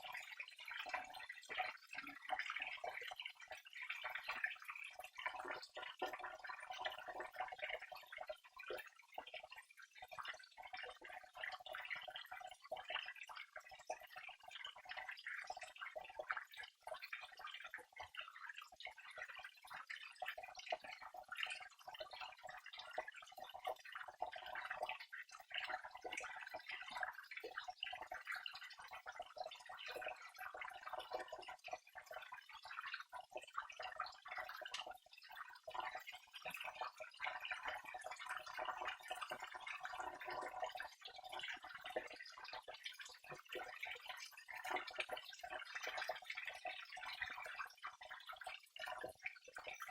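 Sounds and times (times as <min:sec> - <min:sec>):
water trickling and splashing: 0:00.0 - 0:49.9.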